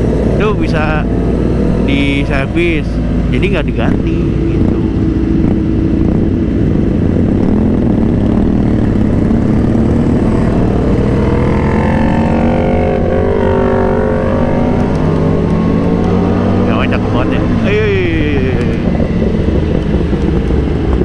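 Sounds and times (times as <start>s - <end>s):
motorcycle engine running: 0.0s - 21.0s
road noise rumble: 0.0s - 21.0s.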